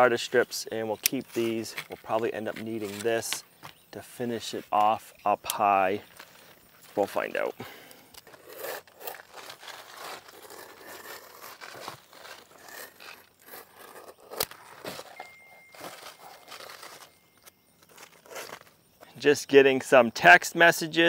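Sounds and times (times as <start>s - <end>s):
knife scraping roofing shingles: 0.0s - 3.5s, 4.4s - 19.1s
shingles and paper crinkling: 0.0s - 18.8s.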